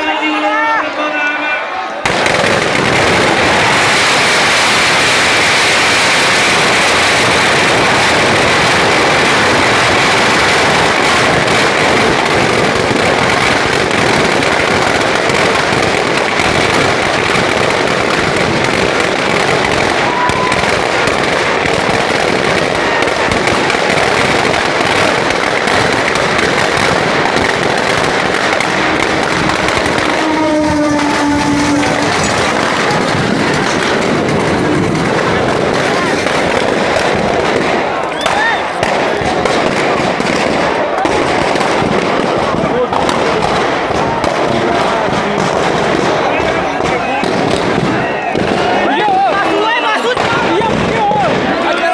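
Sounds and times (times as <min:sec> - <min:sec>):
fireworks crackling and popping: 0:02.0 - 0:51.9.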